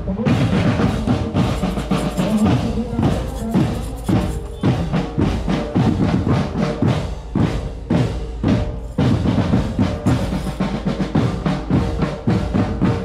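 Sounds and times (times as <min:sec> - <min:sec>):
marching drum line playing: 0:00.0 - 0:13.0.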